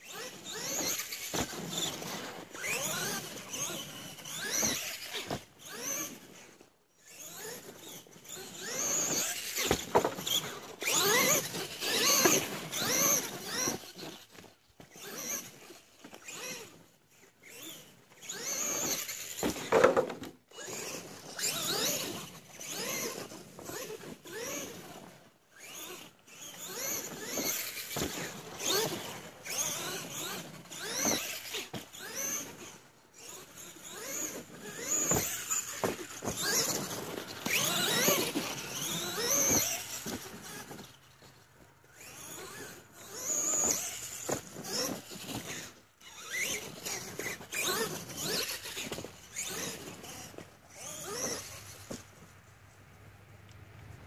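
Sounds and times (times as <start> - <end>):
electric toy truck motor whining: 0.0 - 52.3
tyres scrabbling on loose dirt: 0.0 - 52.4.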